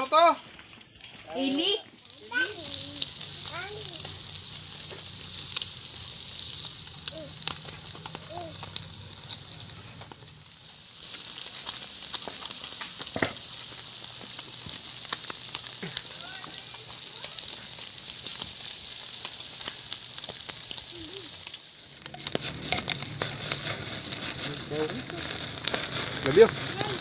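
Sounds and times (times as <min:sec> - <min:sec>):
food frying in hot oil: 0:01.3 - 0:27.0.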